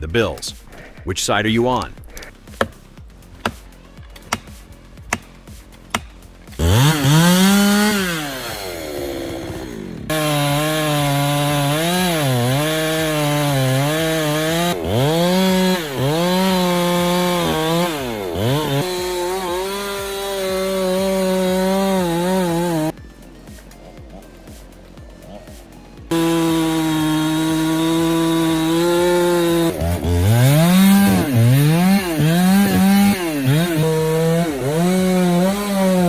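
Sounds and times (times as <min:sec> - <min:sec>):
chainsaw cutting wood: 0:01.8 - 0:36.0.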